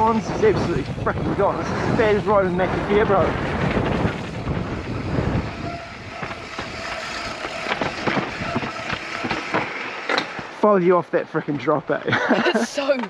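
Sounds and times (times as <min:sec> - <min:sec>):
bike rattling and knocking: 0:00.0 - 0:10.6
bike tyres on dirt and rocks: 0:00.0 - 0:11.9.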